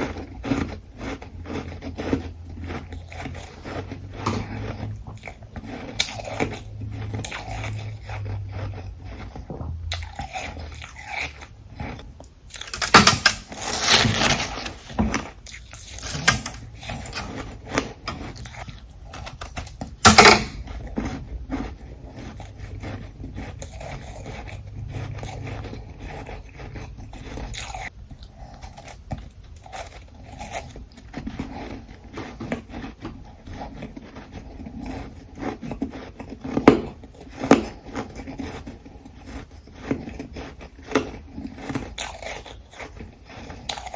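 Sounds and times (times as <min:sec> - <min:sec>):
person crunching ice: 0:00.0 - 0:43.9.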